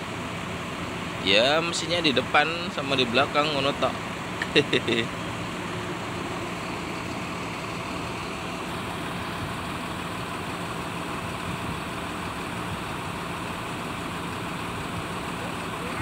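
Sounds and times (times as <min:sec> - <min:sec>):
diesel bus engine idling: 0:00.0 - 0:16.0.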